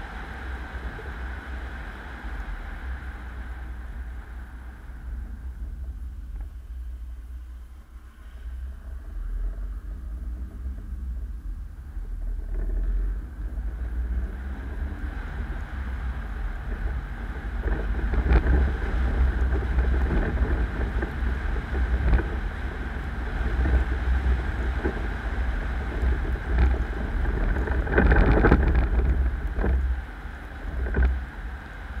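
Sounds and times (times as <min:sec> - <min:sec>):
road and engine rumble: 0:00.0 - 0:32.0.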